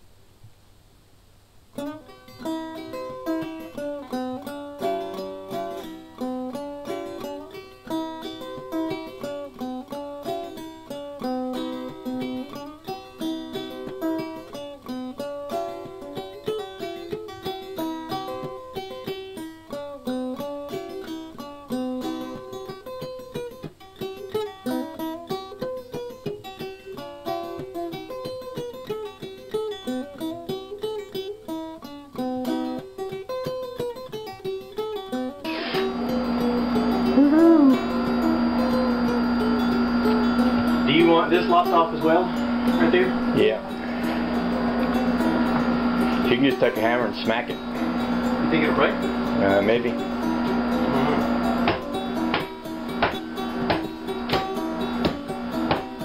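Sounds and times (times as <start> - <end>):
rapidly picked acoustic string instrument: 1.8 - 56.0.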